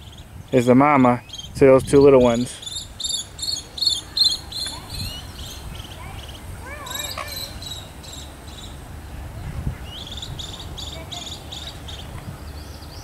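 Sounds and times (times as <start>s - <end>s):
small birds chirping: 0.0s - 13.0s
steady outdoor background: 0.0s - 13.0s.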